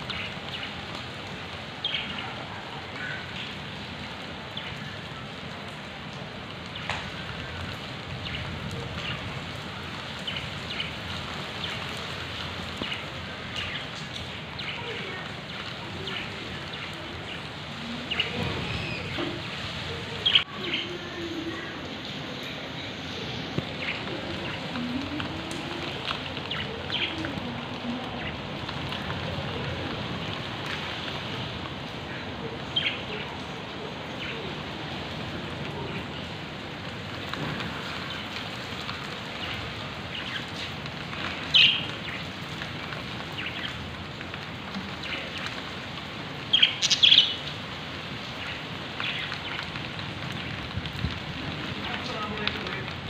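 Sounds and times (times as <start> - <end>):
rain on wet paving: 0.0 - 53.0.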